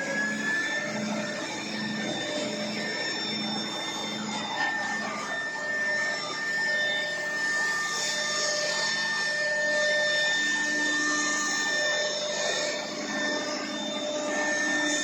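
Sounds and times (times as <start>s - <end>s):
cnc router spindle whine: 0.0s - 15.0s.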